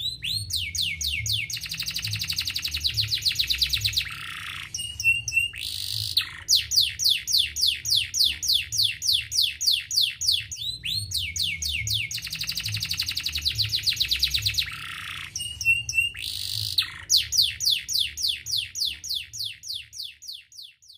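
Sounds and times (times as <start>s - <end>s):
canary singing: 0.0s - 20.9s.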